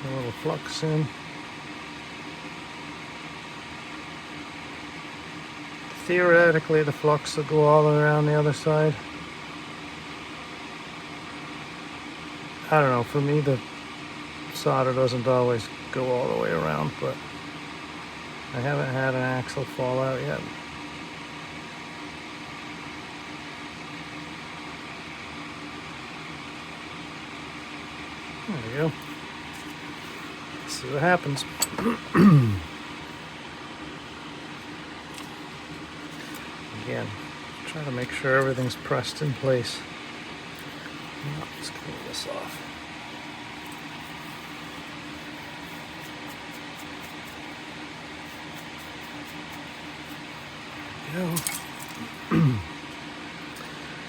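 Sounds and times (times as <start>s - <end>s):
electric fan whirring: 0.0s - 54.0s.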